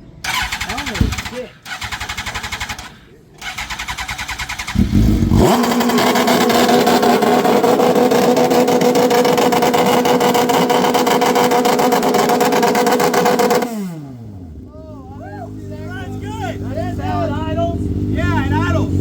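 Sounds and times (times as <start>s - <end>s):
motorcycle engine revving high: 0.2s - 19.0s.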